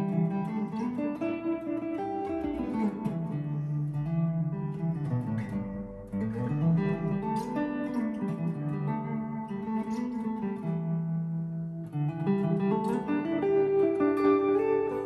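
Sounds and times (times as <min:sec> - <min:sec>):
electric guitar through amplifier: 0:00.0 - 0:15.0.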